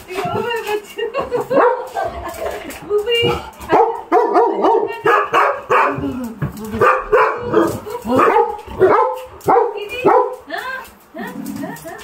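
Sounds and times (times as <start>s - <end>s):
dogs barking excitedly: 0.0s - 10.6s.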